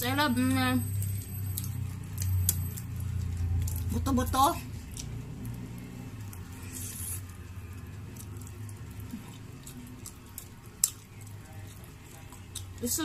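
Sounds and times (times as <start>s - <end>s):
low steady hum: 0.0s - 13.0s
biting and chewing food: 0.4s - 13.0s.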